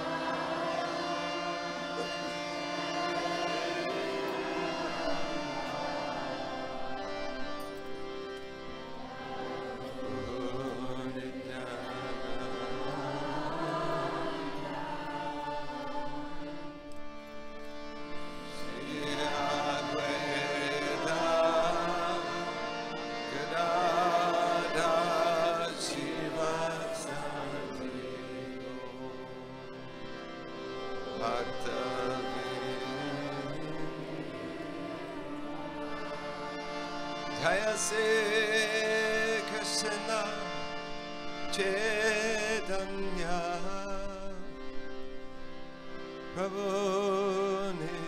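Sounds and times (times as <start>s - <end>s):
droning accompaniment: 0.0s - 48.0s
slow devotional chanting: 0.0s - 48.0s.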